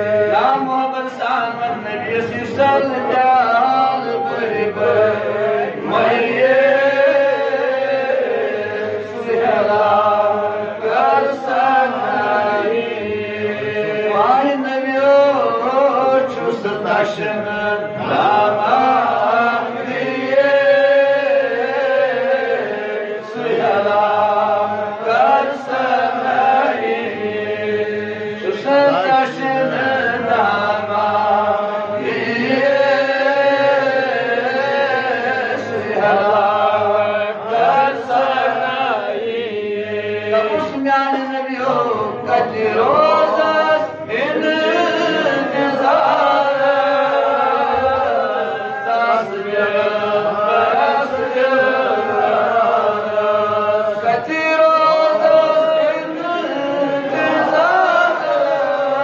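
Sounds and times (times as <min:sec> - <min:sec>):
man chanting through microphone: 0:00.0 - 0:59.0.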